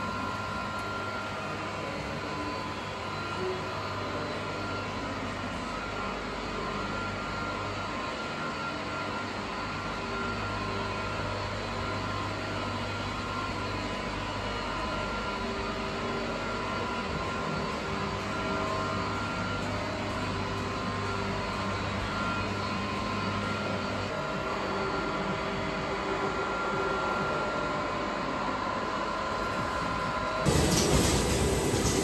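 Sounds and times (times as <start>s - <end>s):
factory machinery droning: 0.0s - 32.0s
faint steady whines: 0.0s - 32.0s.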